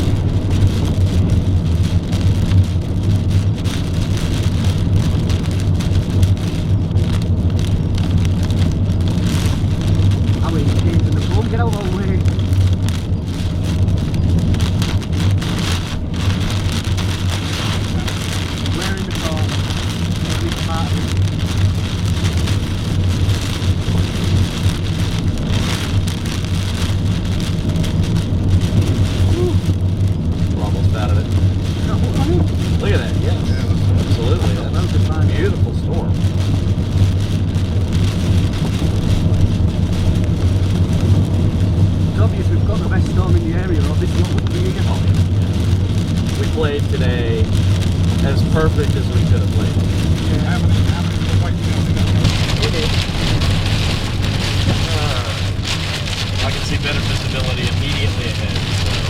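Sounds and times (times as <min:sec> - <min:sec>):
hail and rain drumming on car: 0:00.0 - 0:59.0
low hum of engine and road: 0:00.0 - 0:59.0.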